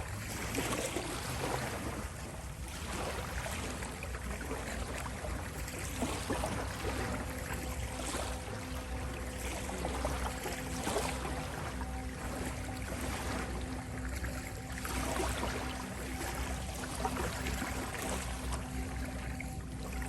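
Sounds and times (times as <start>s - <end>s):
faint steady tone: 0.0s - 20.0s.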